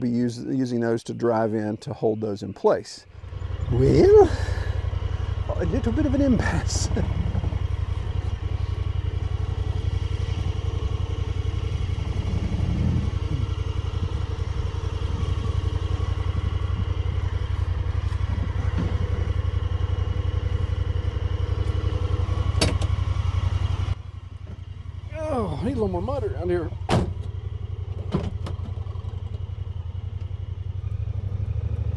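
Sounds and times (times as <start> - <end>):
utv engine idling: 0.0 - 31.9.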